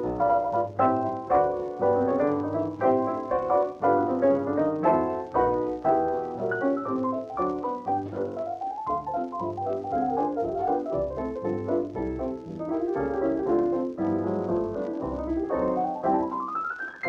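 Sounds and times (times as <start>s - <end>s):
pianos playing fast runs: 0.0s - 17.0s.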